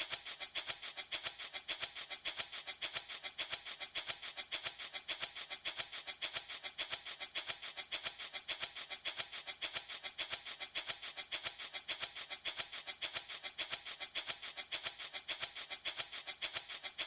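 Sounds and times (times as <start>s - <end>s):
baby rattle shaken: 0.0s - 17.0s.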